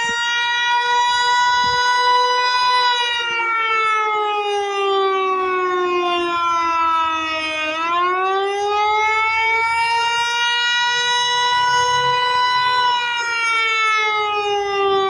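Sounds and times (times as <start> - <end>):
warning siren wail: 0.0 - 15.0.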